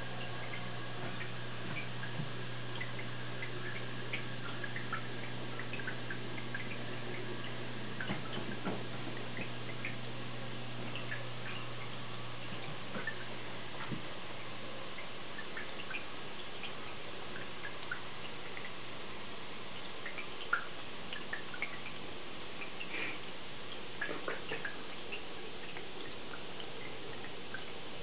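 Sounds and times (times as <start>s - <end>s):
water drips and bubble pops: 0.0s - 14.1s, 14.9s - 18.8s, 19.8s - 22.0s, 23.7s - 28.0s
aquarium filter humming: 0.0s - 28.0s.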